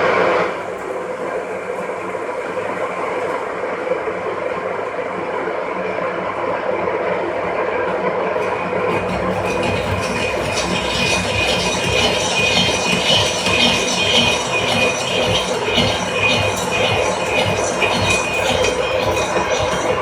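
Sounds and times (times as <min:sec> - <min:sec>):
machine running steadily: 0:00.0 - 0:20.0.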